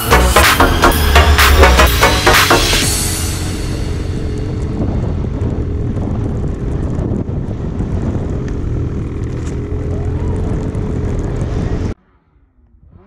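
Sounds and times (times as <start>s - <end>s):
snowmobile engine droning: 0.0s - 13.0s.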